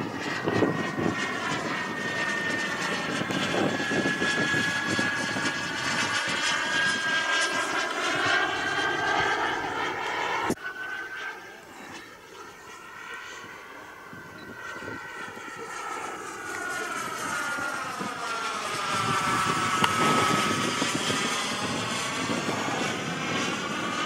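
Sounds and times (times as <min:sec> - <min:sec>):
model jet turbine whine: 0:00.0 - 0:24.0.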